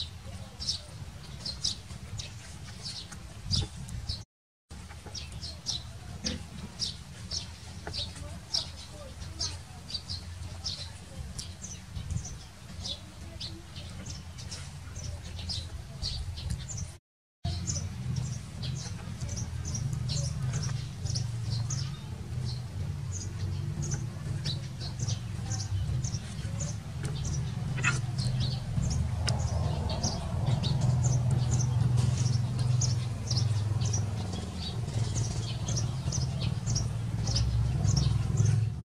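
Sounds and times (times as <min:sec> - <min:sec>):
small birds chirping: 0:00.0 - 0:38.8
steady low rumble: 0:05.4 - 0:38.8.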